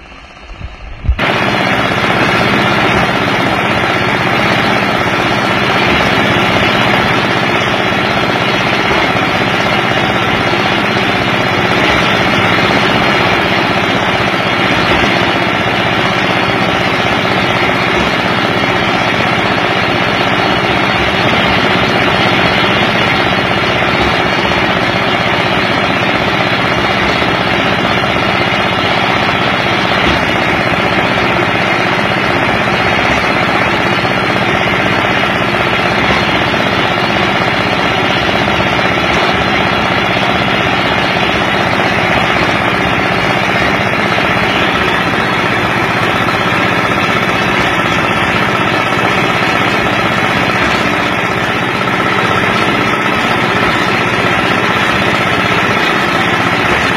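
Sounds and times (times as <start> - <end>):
cement mixer engine running: 0.0 - 56.9.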